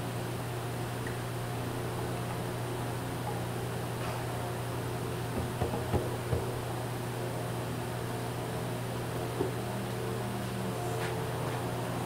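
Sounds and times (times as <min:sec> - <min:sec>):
workshop equipment humming: 0:00.0 - 0:12.0.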